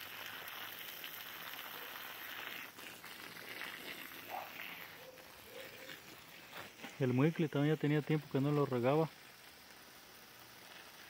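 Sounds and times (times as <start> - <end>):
garden hose spraying water: 0.0 - 11.0.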